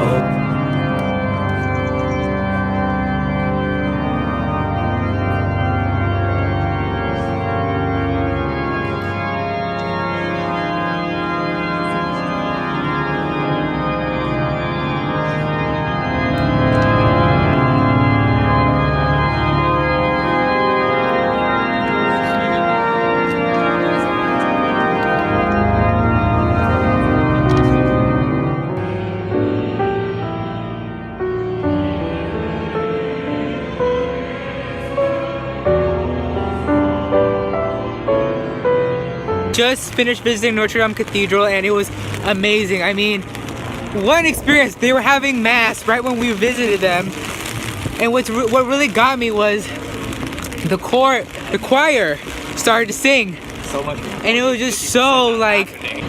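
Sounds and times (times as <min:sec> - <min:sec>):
pipe organ chords: 0:00.0 - 0:56.0.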